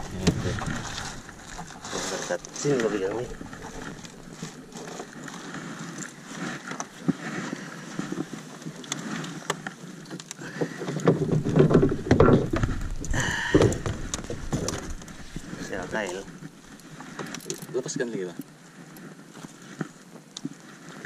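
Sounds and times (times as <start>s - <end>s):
fishing gear rustling and knocking: 0.0s - 21.0s.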